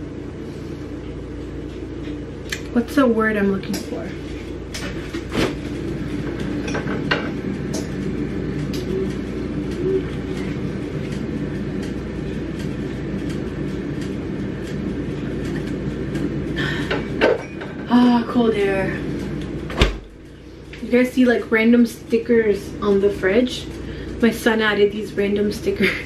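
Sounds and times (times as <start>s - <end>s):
appliance humming: 0.0s - 26.0s.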